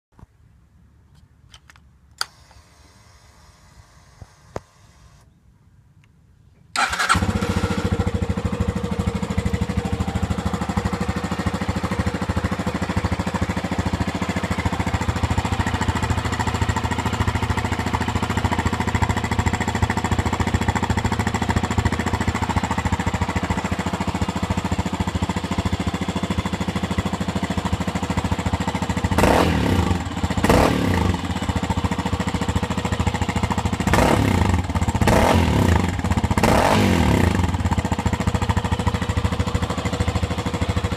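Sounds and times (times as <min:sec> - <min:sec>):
motorcycle engine idling: 0:06.8 - 0:40.9.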